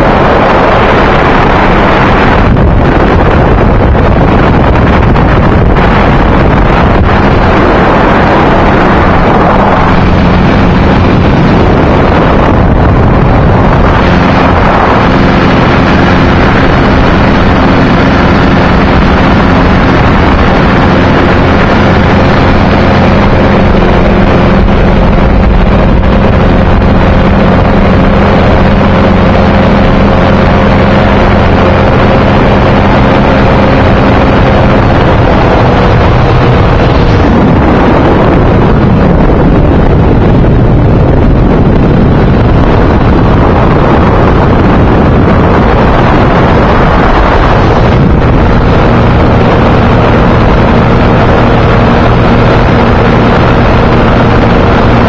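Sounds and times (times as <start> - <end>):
aircraft piston engine running: 0.0 - 55.0
wind rushing over microphone: 0.0 - 55.0.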